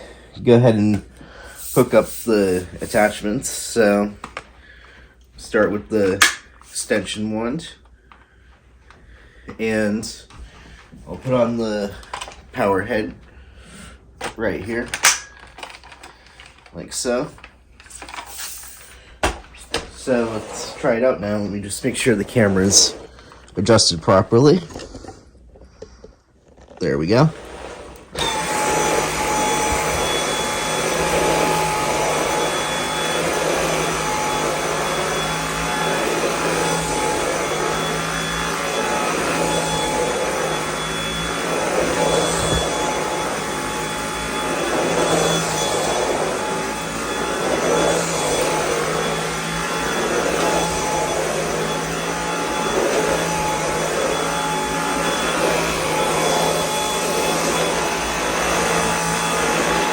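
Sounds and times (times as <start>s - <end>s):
stick vacuum whine and airflow: 0.0s - 59.9s.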